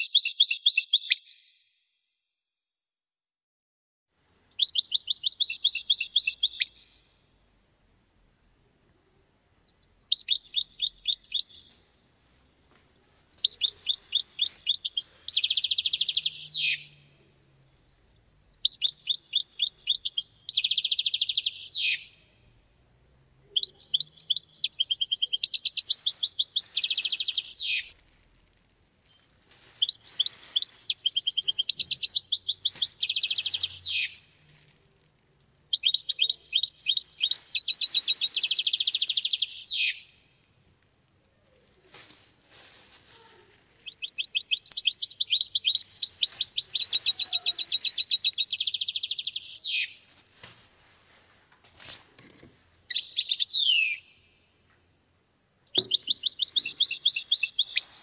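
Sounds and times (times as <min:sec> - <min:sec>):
songbird singing: 0:00.0 - 0:01.8, 0:04.4 - 0:07.9, 0:08.5 - 0:12.0, 0:12.6 - 0:28.4, 0:29.0 - 0:40.7, 0:43.8 - 0:50.1, 0:52.8 - 0:54.8, 0:55.6 - 0:58.0.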